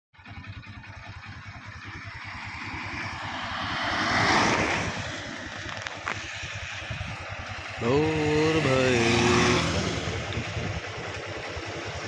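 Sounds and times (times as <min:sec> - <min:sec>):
car passing on asphalt: 0:00.2 - 0:12.0
steady low rumble: 0:00.2 - 0:12.0.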